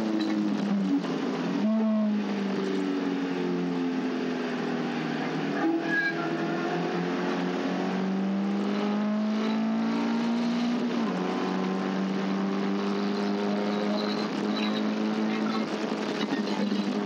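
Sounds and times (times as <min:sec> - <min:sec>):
race car engine revving: 0:00.0 - 0:17.0
wind and road noise: 0:00.0 - 0:17.0.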